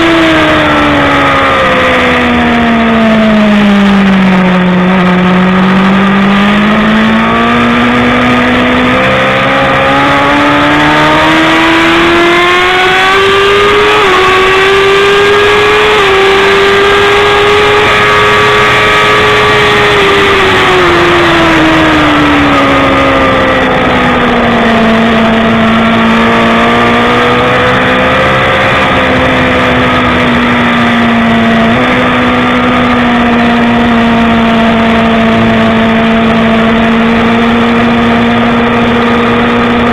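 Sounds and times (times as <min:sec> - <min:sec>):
motorcycle engine at race pace: 0:00.0 - 0:39.9.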